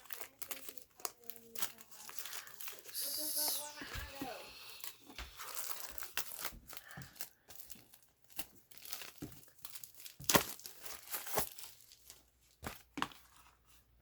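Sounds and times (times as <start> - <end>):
packaging tearing and crinkling: 0.0 - 13.3.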